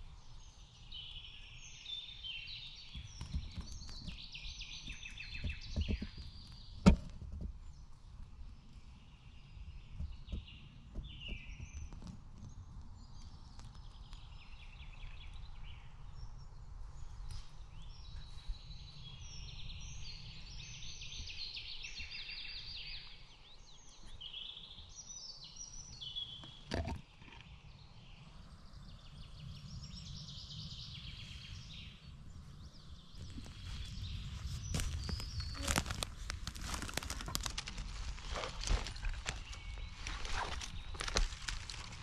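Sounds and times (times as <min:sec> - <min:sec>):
songbirds singing: 0:00.0 - 0:42.0.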